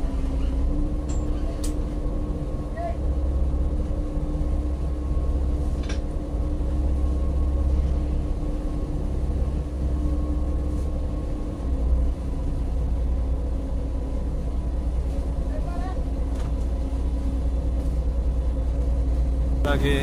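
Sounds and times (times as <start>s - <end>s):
marine engine droning: 0.0s - 20.0s.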